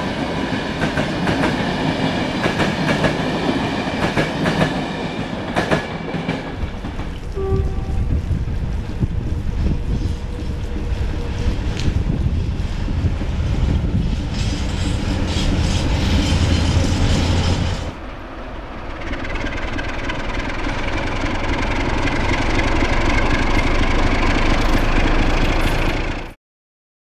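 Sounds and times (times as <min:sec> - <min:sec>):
diesel locomotive engine rumbling: 0:00.0 - 0:26.4
electric locomotive running: 0:00.0 - 0:26.4.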